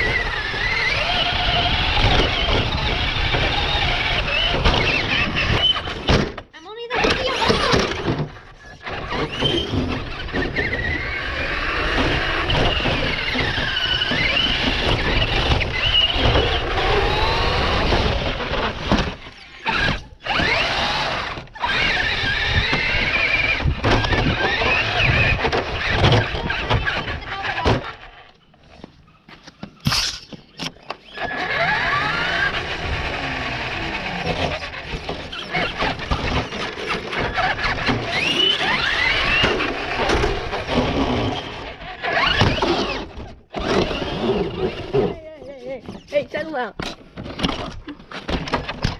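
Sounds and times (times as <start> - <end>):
electric motor whining: 0.0 - 6.1, 7.0 - 28.4, 31.0 - 45.2
tyres rumbling on pavement: 0.0 - 28.2, 31.2 - 45.3.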